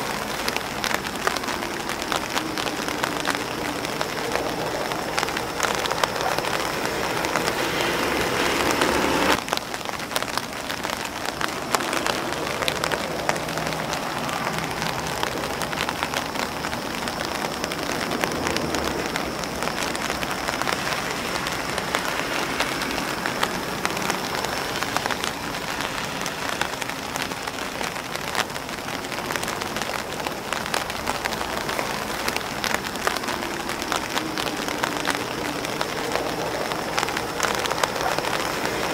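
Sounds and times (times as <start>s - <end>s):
rain pattering on umbrella: 0.0s - 38.9s.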